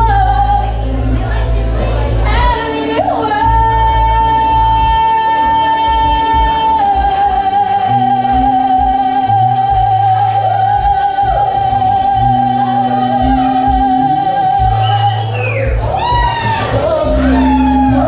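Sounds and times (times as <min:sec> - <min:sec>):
backing track with bass: 0:00.0 - 0:18.0
woman singing into a microphone: 0:00.0 - 0:18.0.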